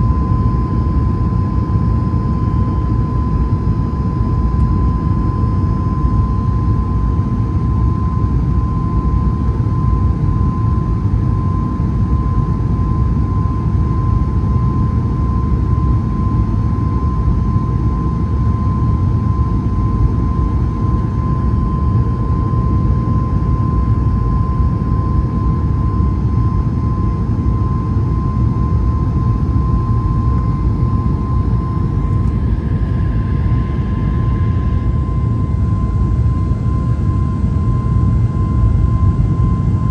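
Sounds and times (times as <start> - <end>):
jet airliner engine roar: 0.0 - 39.9
steady jet engine whine: 0.0 - 39.9.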